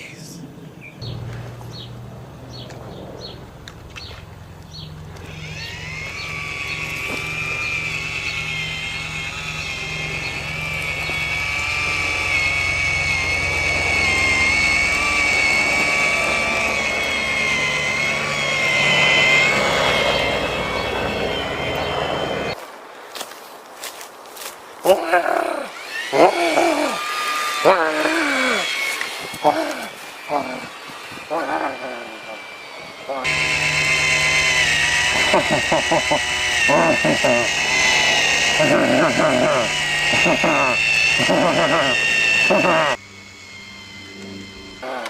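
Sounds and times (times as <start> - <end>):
chainsaw engine revving: 1.0 - 22.6, 24.8 - 45.0.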